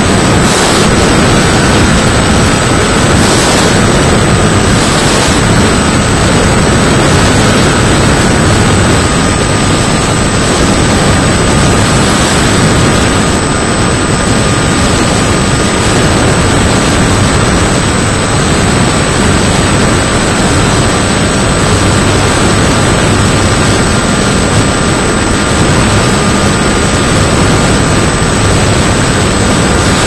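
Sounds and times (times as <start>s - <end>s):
electric motor and propeller: 0.0s - 30.0s
thin steady whine: 0.0s - 30.0s
wind rushing past airframe: 0.0s - 30.0s.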